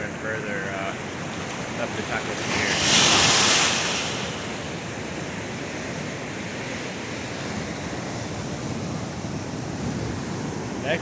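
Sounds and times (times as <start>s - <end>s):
surf washing up beach: 0.0s - 11.0s.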